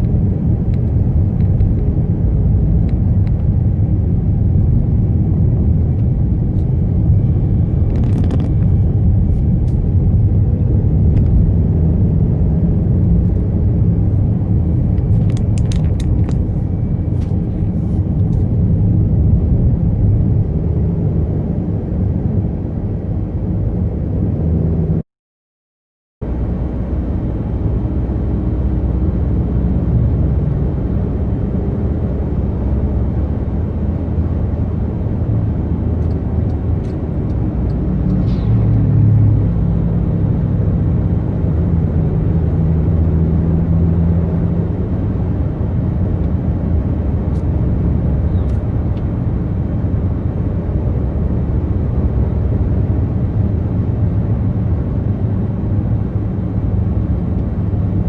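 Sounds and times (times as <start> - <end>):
car engine and road rumble: 0.0 - 25.0, 26.2 - 58.0.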